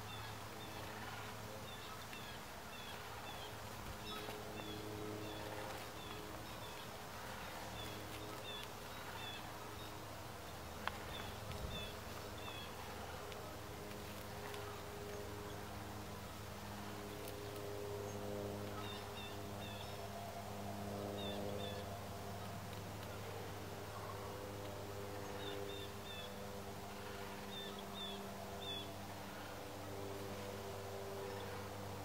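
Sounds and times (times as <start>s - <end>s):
small songbirds chirping: 0.0s - 20.1s, 21.2s - 29.5s
steady low hum: 0.0s - 32.0s.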